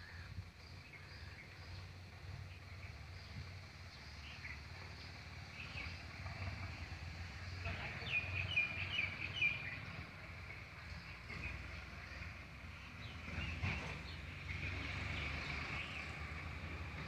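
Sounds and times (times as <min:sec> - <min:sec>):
songbird chirping: 0:00.6 - 0:17.0.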